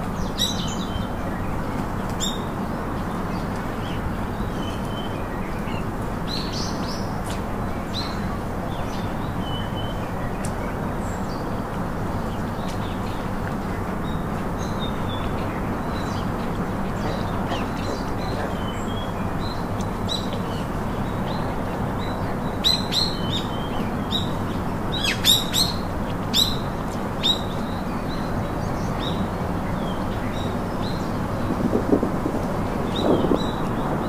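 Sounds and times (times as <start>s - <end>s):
outdoor background hiss: 0.0s - 34.0s
small birds chirping: 0.1s - 34.0s.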